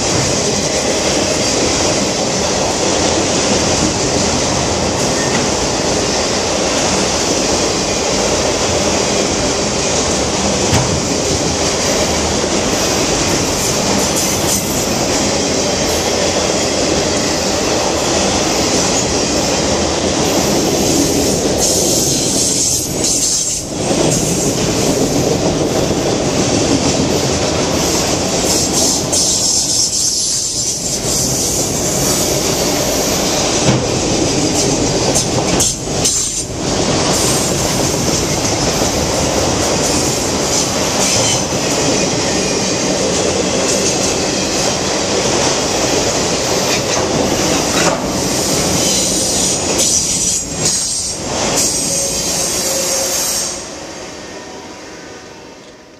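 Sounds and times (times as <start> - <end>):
freight train rolling past: 0.0 - 55.9.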